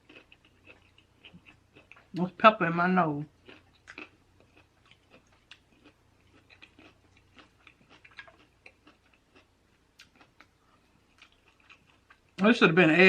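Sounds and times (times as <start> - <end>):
close-up chewing: 0.0 - 2.2, 3.2 - 12.4.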